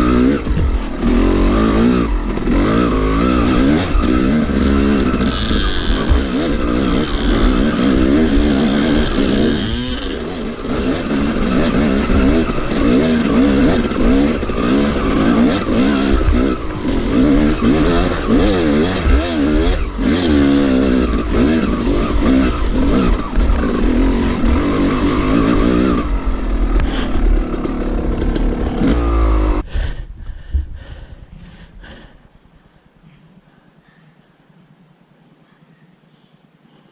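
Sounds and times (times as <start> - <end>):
dirt bike engine revving: 0.0 - 29.7.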